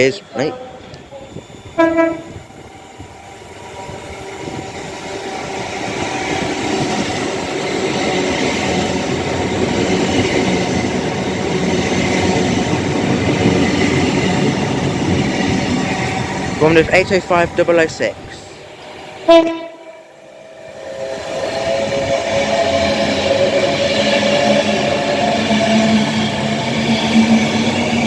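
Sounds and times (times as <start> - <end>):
passenger train passing: 0.0 - 28.0.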